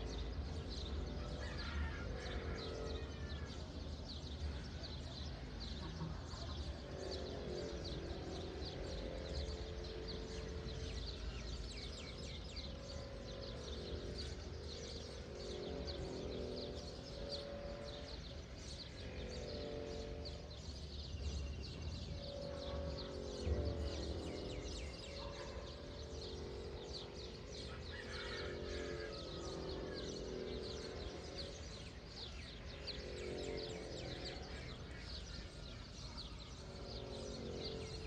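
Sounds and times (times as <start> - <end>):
low-pitched bird calls: 0.0 - 38.0
small birds chirping: 0.0 - 38.0.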